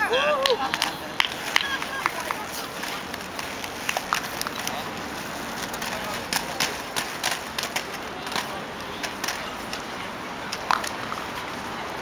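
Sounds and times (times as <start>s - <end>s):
inline skates rolling on asphalt: 0.0s - 12.0s
skate wheels clicking: 0.0s - 12.0s.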